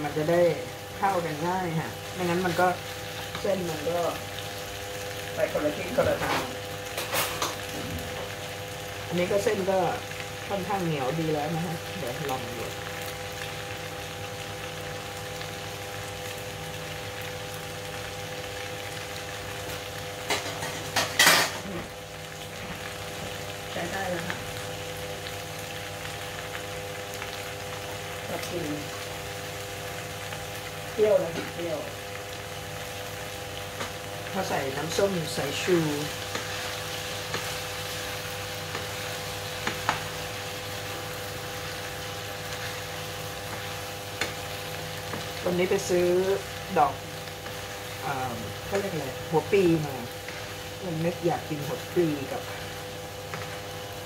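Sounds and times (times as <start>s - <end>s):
noodles sizzling in a pan: 0.0s - 54.0s.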